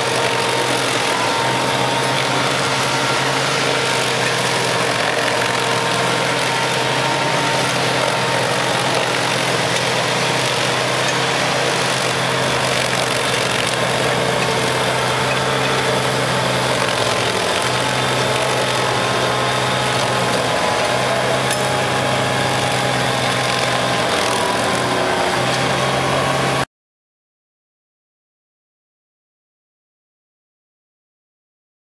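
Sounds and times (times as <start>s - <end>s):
stump grinder engine running: 0.0s - 26.6s.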